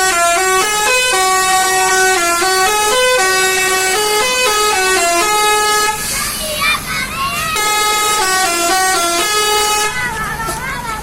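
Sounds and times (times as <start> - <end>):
musical bus air horn: 0.0 - 6.4, 7.4 - 10.6.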